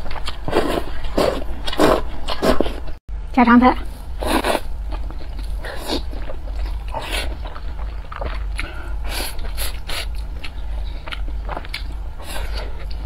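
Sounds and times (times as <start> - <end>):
slurping and chewing noodles: 0.0 - 3.0, 3.9 - 13.0
steady low hum: 0.0 - 13.0.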